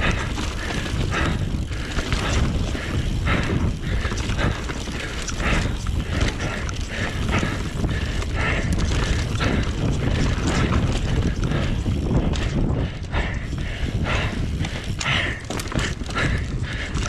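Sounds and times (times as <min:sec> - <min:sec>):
bike knocks and rattles: 0:00.0 - 0:17.0
bike tyres rumbling on dirt: 0:00.0 - 0:17.0
wind buffeting microphone: 0:00.0 - 0:17.0.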